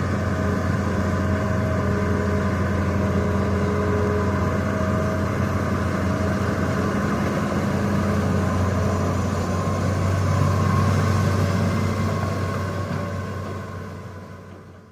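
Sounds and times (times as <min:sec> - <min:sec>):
excavator diesel engine humming: 0:00.0 - 0:14.9.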